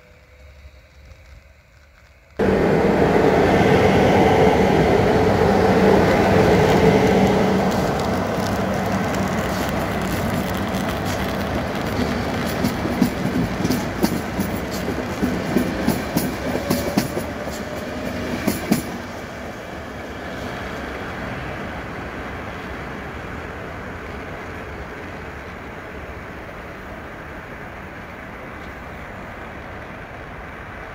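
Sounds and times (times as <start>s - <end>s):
train rumbling past: 0.0s - 30.9s.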